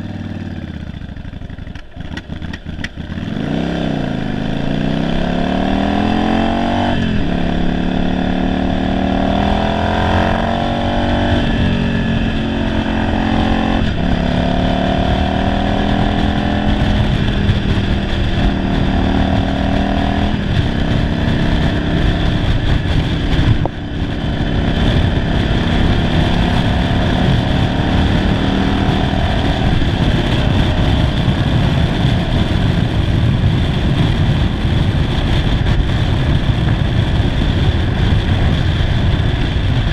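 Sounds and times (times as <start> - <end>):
motorcycle engine under way: 0.0 - 39.9
wind on microphone: 2.0 - 39.9.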